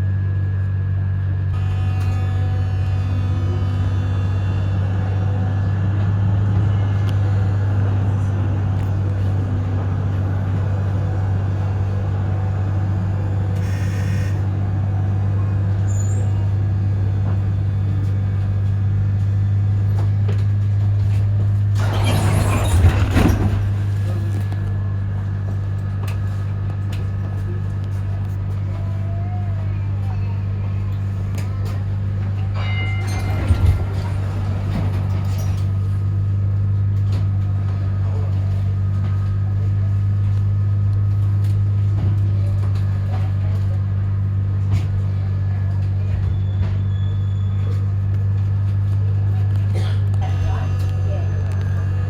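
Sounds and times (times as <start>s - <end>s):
tram humming: 0.0s - 52.0s.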